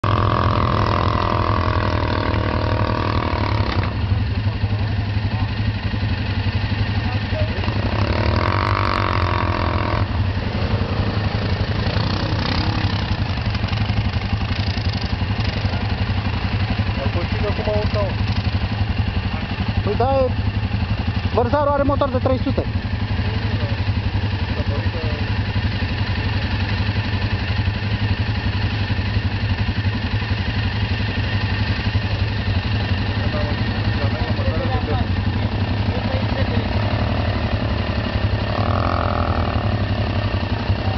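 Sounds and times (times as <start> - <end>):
quad bike engine idling: 0.0 - 40.9.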